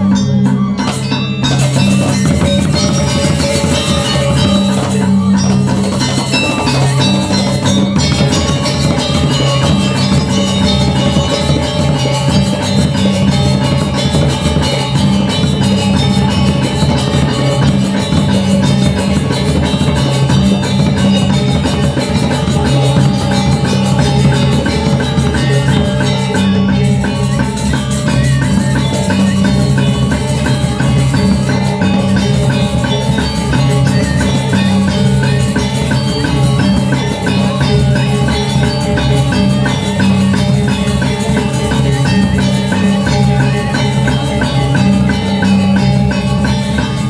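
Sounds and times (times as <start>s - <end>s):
hand drums beating: 0.0s - 47.0s
metallophones and gongs ringing: 0.0s - 47.0s.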